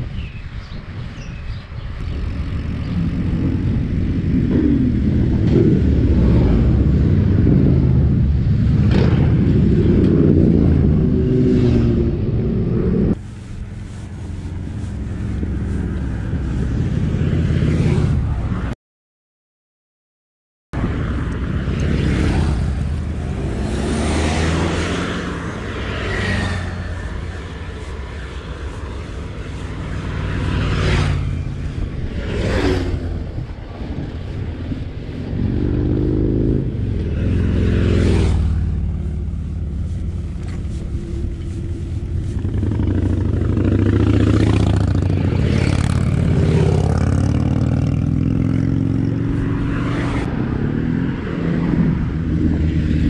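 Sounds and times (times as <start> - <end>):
vehicles passing by: 0.0 - 18.8, 20.8 - 53.0
wind rumbling on microphone: 0.0 - 18.8, 20.8 - 53.0.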